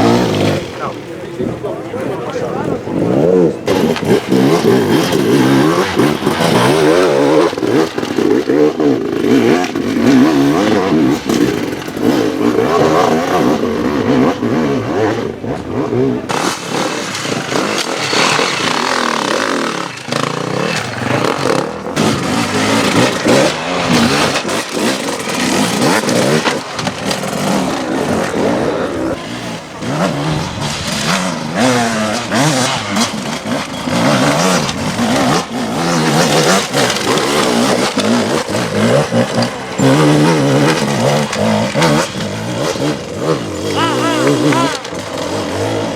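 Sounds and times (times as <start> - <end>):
motorcycle engines revving: 0.0 - 45.9
clattering: 3.6 - 14.5, 15.4 - 45.9.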